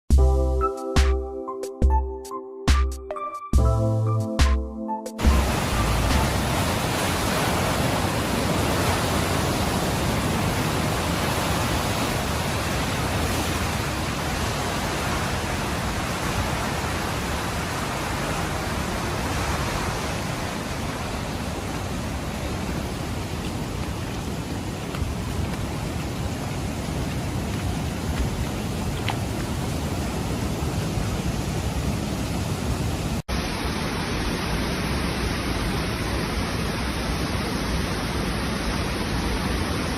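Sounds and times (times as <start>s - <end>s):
water rushing: 5.2s - 39.9s.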